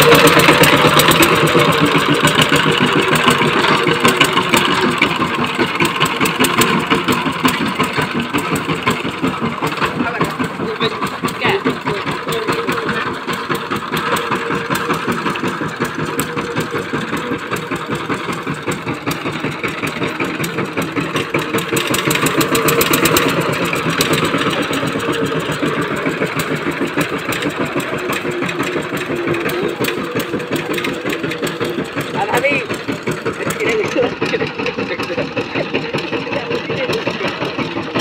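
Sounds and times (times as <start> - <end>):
tiller engine running: 0.0 - 38.0.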